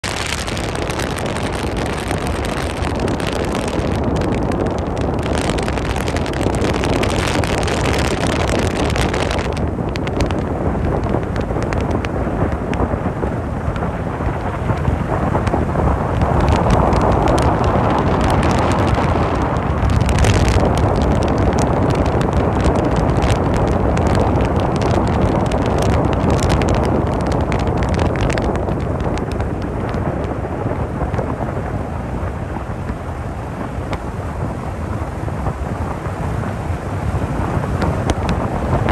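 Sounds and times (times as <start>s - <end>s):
car road noise rumble: 0.0s - 38.9s
light crackles: 0.0s - 38.9s
wind buffeting microphone: 0.0s - 38.9s.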